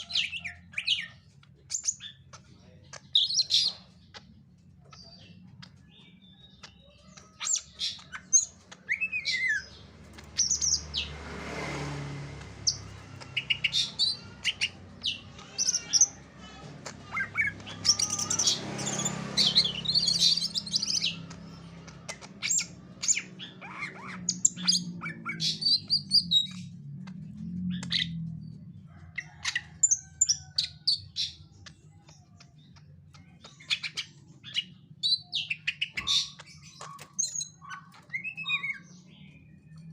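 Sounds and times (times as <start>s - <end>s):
bird chirping and squawking: 0.0s - 39.9s.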